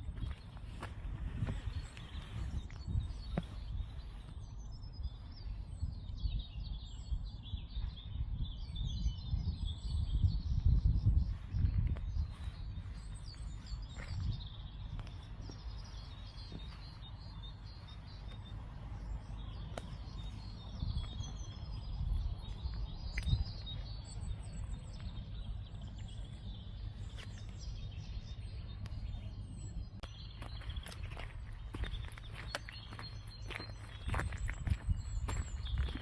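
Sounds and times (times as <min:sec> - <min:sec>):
small birds chirping: 0:00.0 - 0:36.0
steady low rumble: 0:00.0 - 0:36.0.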